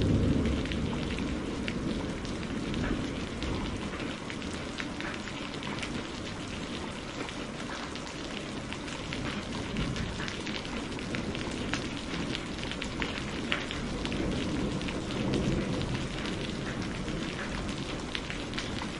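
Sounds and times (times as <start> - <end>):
heavy rain falling: 0.0 - 18.9
raindrops ticking close by: 0.0 - 18.9.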